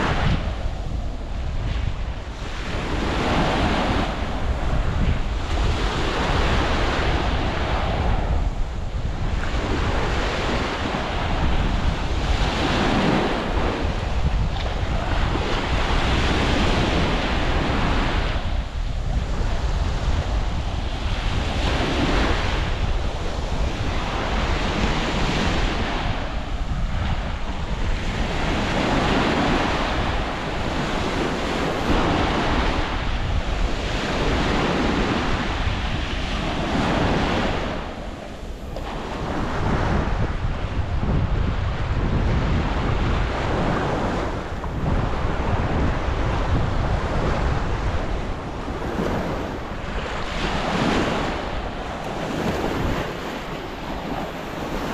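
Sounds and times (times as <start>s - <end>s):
small waves breaking on sand: 0.0s - 54.9s
wind buffeting microphone: 0.0s - 54.9s.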